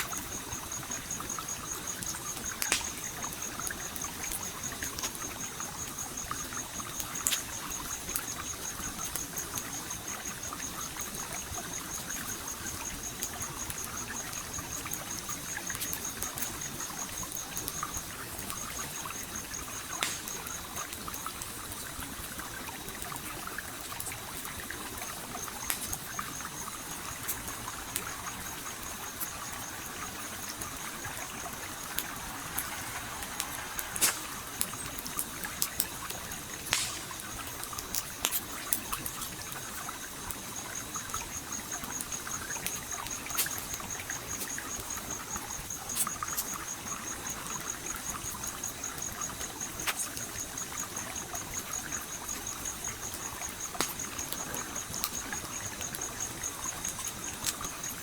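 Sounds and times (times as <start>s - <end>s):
campfire wood crackling: 0.0s - 58.0s
stream trickling and gurgling: 0.0s - 58.0s.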